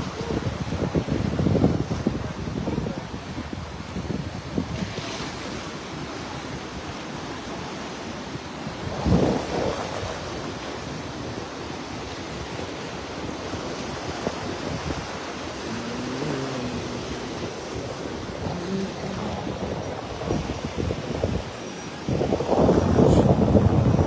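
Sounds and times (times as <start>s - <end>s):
waves washing among rocks: 0.0s - 24.0s
wind buffeting microphone: 0.0s - 24.0s.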